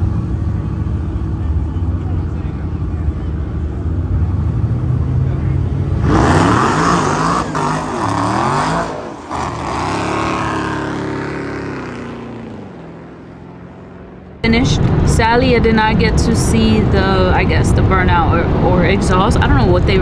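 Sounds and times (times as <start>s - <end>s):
drag racing cars revving: 0.0s - 20.0s.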